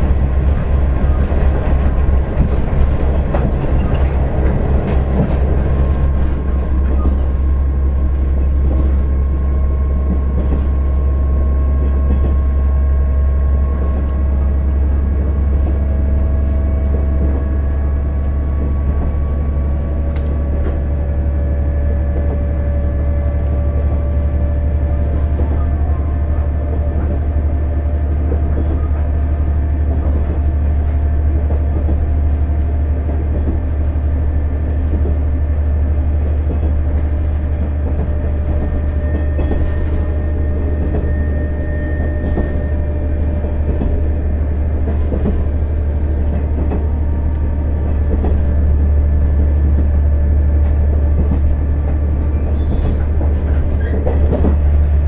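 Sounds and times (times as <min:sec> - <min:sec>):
diesel railcar engine drone: 0:00.0 - 0:55.0.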